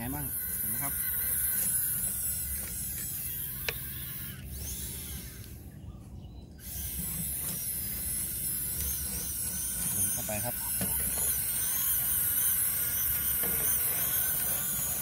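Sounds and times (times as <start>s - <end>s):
electric winch whining: 0.0s - 5.8s, 6.6s - 15.0s.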